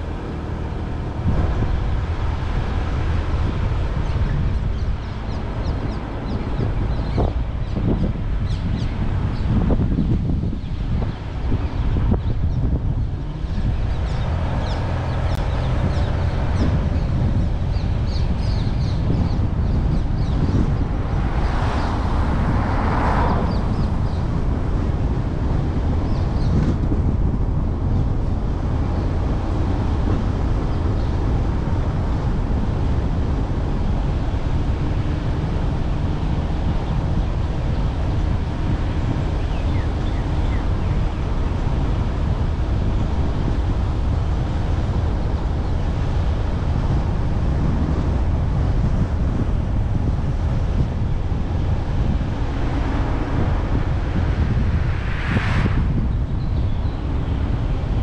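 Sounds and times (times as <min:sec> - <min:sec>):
tyres and engine rumbling: 0:00.0 - 0:58.0
wind noise on microphone: 0:00.0 - 0:58.0.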